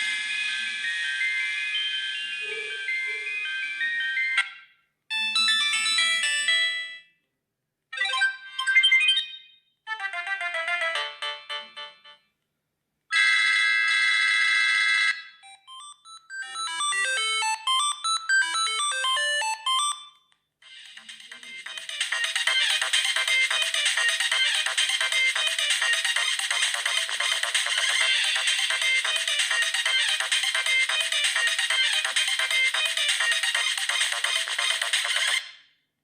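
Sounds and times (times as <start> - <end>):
phone ringtone melodies: 0.0 - 7.2, 8.0 - 12.2, 13.2 - 35.6.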